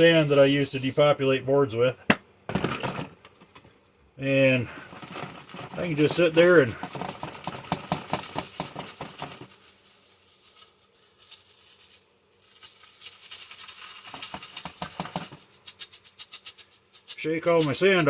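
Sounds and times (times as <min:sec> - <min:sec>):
sand shaken through mesh strainer: 0:00.0 - 0:01.1, 0:04.3 - 0:18.0.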